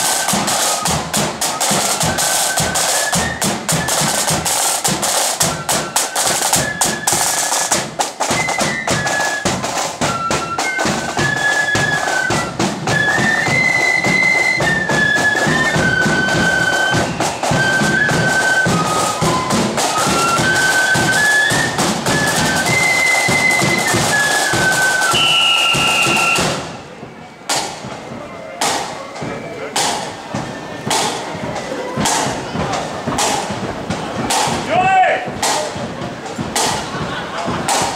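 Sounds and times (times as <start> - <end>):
flutes playing tune: 0.0 - 37.9
side drums and bass drum: 0.0 - 37.9.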